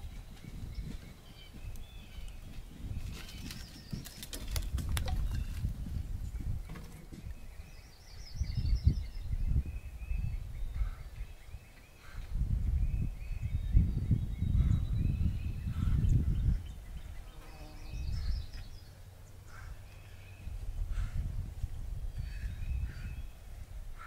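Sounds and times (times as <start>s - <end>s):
low rumble in gusts: 0.0s - 17.3s, 17.9s - 24.0s
songbirds chirping: 0.0s - 24.0s.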